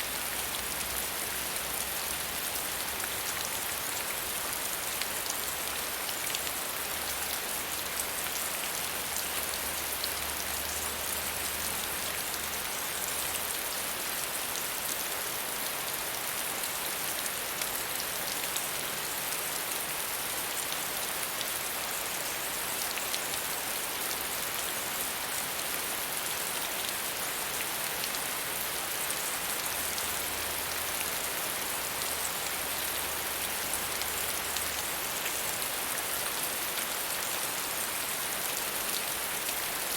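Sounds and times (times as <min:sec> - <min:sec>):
rain patter on a surface: 0:00.0 - 0:39.9.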